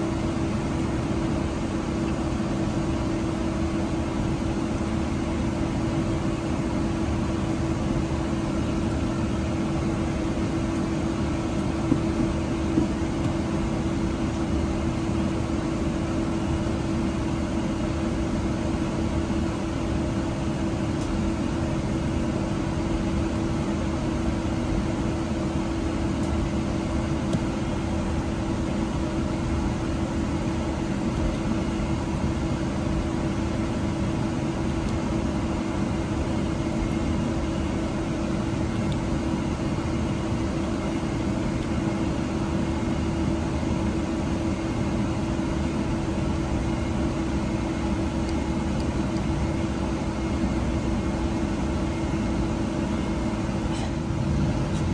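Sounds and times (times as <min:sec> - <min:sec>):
airliner cabin rushing hum: 0:00.2 - 0:54.9.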